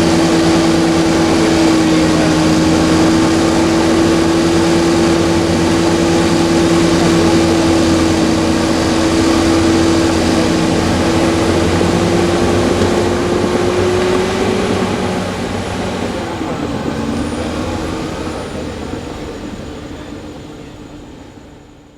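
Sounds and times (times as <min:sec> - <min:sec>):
bulldozer diesel engine droning: 0:00.0 - 0:21.9.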